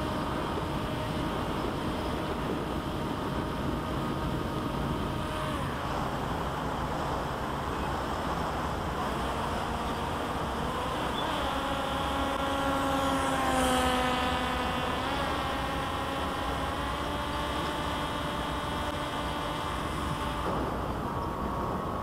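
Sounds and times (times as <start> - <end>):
electric motor and propeller whine: 0.0 - 22.0
wind rushing over microphone: 0.0 - 22.0.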